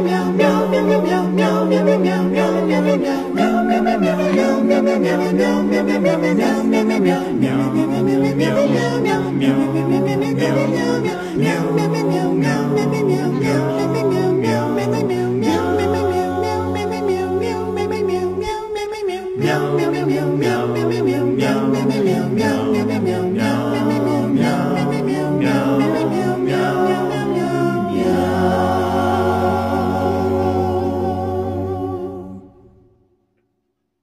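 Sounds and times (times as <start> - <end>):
quick rhythmic sung syllables: 0.0 - 32.3
a cappella singing: 0.0 - 33.0.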